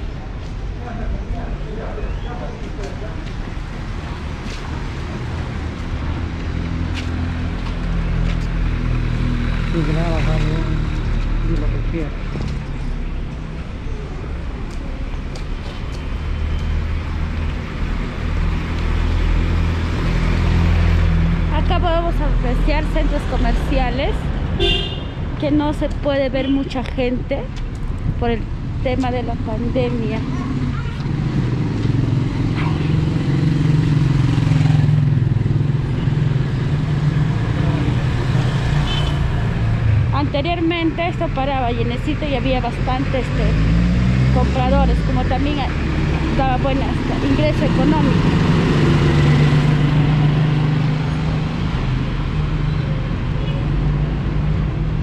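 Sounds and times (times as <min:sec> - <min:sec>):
street traffic: 0:00.0 - 0:55.0.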